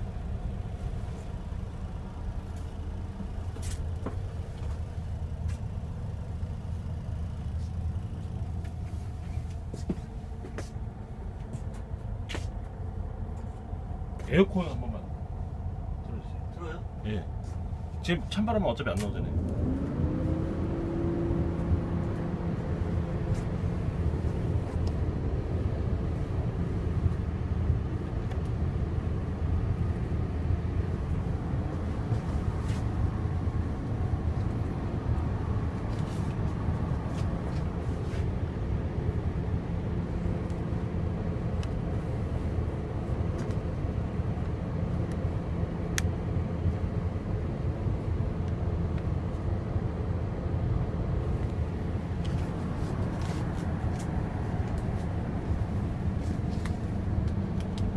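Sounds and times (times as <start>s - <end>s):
air-conditioning blower: 0.0s - 57.9s
diesel engine idling: 0.0s - 57.9s.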